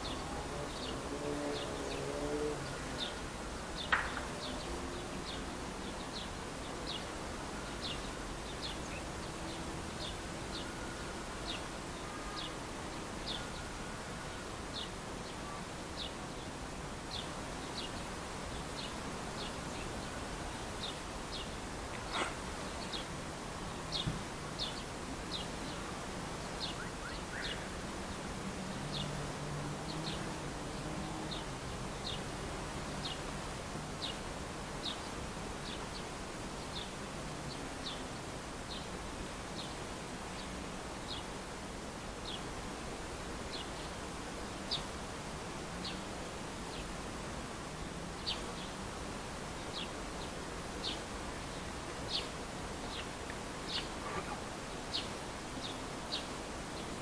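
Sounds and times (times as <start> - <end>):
songbird chirping: 0.0 - 41.4, 45.7 - 47.2, 48.1 - 57.0
outdoor background noise: 0.0 - 57.0.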